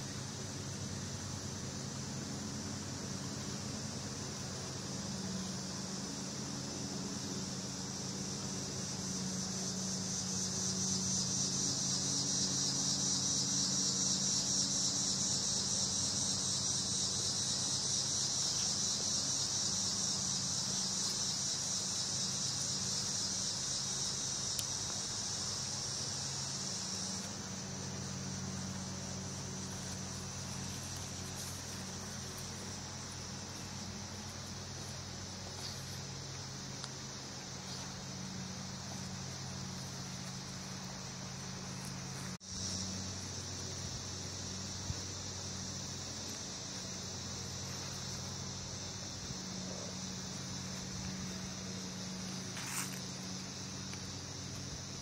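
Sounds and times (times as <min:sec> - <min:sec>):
insects buzzing trill: 0:00.0 - 0:55.0.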